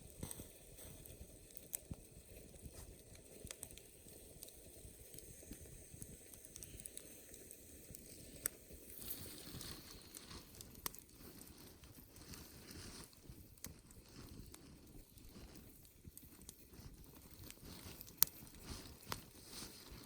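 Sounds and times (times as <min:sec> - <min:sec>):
campfire crackling: 0:00.0 - 0:20.0
fire snaps and pops: 0:00.0 - 0:20.0.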